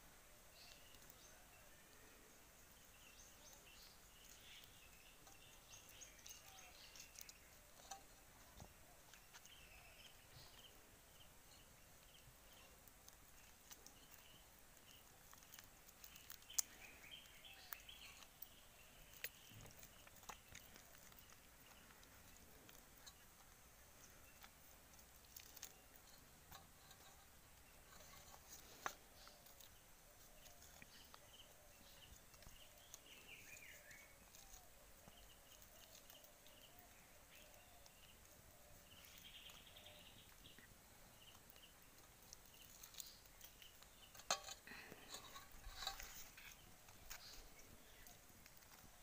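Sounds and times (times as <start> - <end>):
fingers peeling roasted eggplant skin: 2.8 - 49.0.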